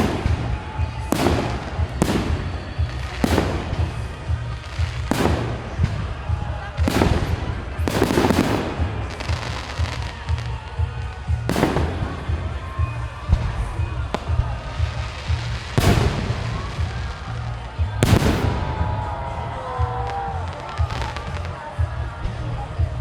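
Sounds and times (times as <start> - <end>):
firework crackle: 0.0 - 23.0.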